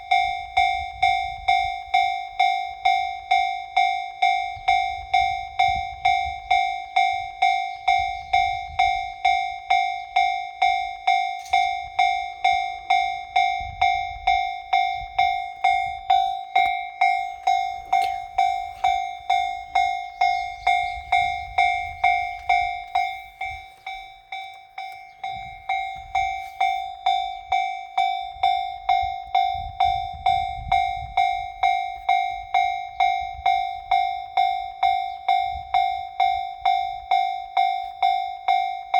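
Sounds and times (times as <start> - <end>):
level-crossing warning bell ringing: 0.0 - 38.9.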